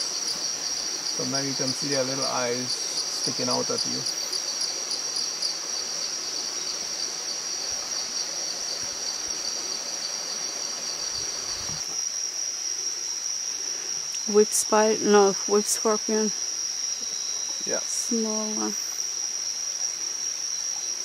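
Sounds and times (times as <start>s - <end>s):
crickets high-pitched trill: 0.0s - 21.0s.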